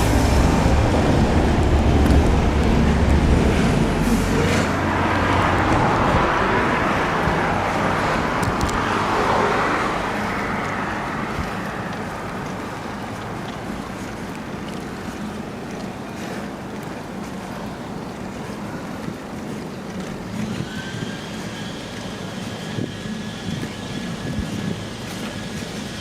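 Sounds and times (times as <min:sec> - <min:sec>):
heavy engine rumble: 0:00.0 - 0:26.0
tyre noise of passing vehicles: 0:00.0 - 0:26.0.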